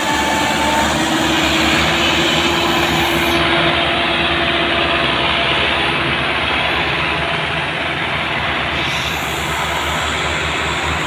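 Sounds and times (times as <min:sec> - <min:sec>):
tractor diesel engine running hard: 0:00.0 - 0:11.0.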